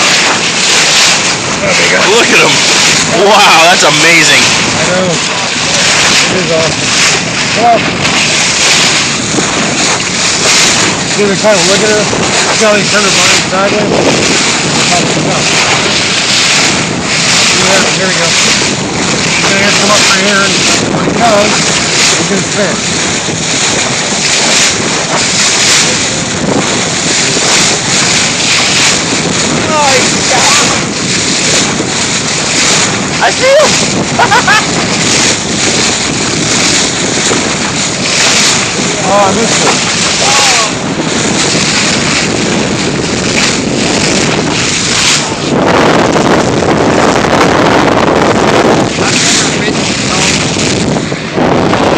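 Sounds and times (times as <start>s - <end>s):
water rushing along boat hull: 0.0s - 51.9s
wind buffeting microphone: 0.0s - 51.9s.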